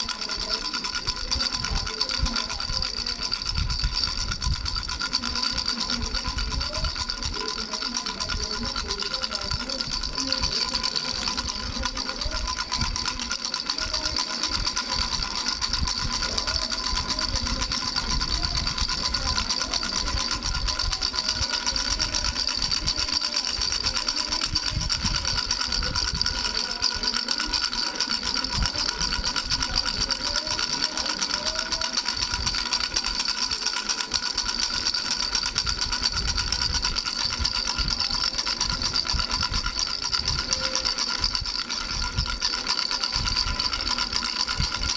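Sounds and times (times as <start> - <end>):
bell rattle jingling: 0.0 - 44.9.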